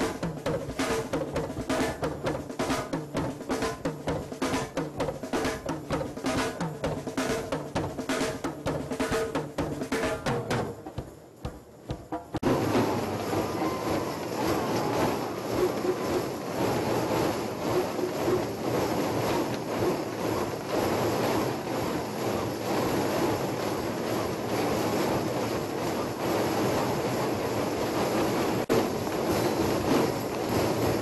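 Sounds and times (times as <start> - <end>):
many hand drums playing: 0.0 - 26.3.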